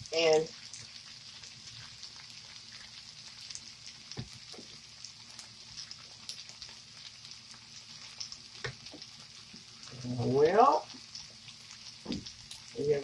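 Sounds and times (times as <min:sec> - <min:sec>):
potatoes sizzling in a skillet: 0:00.0 - 0:13.0.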